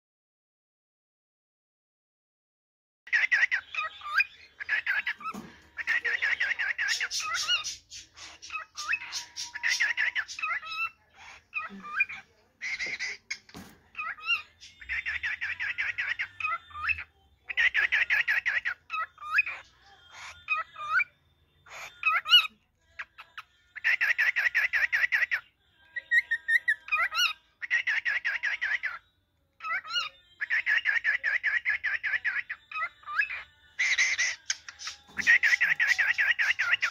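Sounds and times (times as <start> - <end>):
cockatiel chattering: 3.1 - 23.2, 23.8 - 25.4, 26.1 - 29.0, 29.6 - 36.9.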